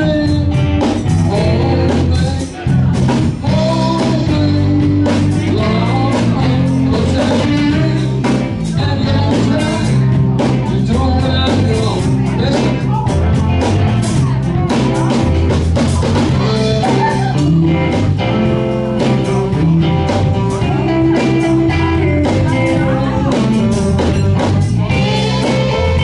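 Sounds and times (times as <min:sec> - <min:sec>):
drum kit beat: 0:00.0 - 0:26.0
electric guitars: 0:00.0 - 0:26.0
person singing: 0:00.0 - 0:26.0.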